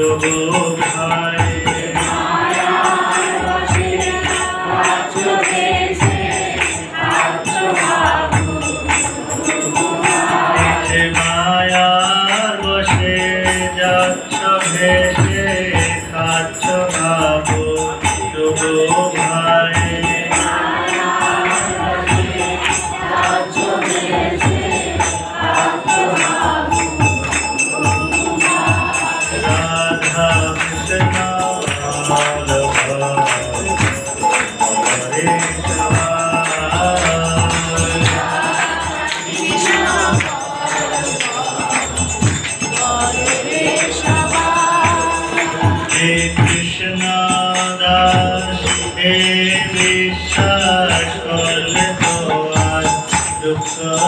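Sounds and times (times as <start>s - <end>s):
group singing a chant: 0.0s - 54.0s
hand cymbals clashing: 0.0s - 54.0s.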